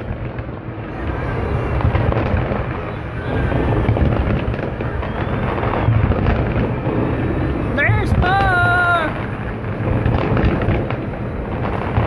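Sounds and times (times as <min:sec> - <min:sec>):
fireworks crackling and popping: 0:00.0 - 0:12.0
low rumble of bursts: 0:00.0 - 0:12.0.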